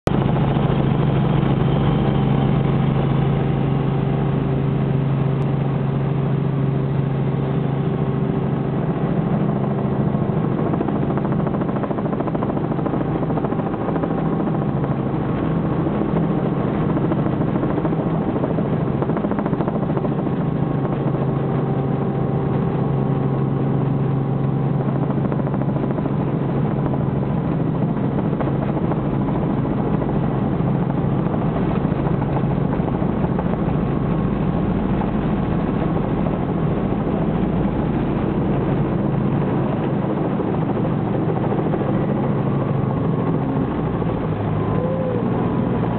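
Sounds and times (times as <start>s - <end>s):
helicopter engine and rotors droning: 0.1s - 45.9s.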